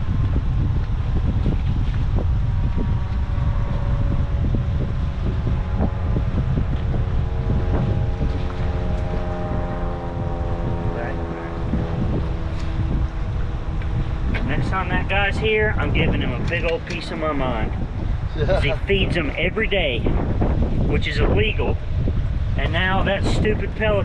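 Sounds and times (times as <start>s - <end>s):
steady motor drone: 0.0s - 24.0s
wind buffeting microphone: 0.0s - 24.0s.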